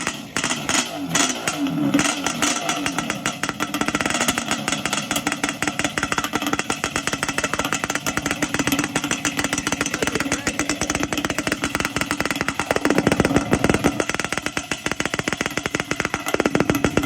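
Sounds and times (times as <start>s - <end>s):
two-stroke engine idling: 0.0s - 17.0s.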